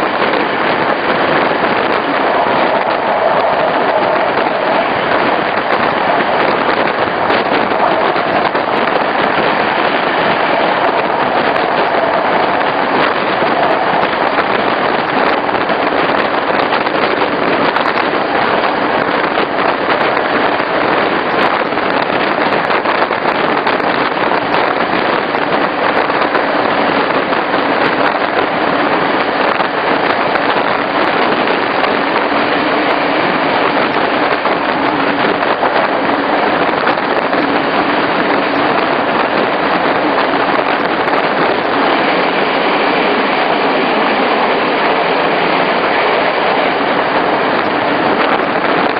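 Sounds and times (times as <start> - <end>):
train wheels rolling on rails: 0.0 - 48.9.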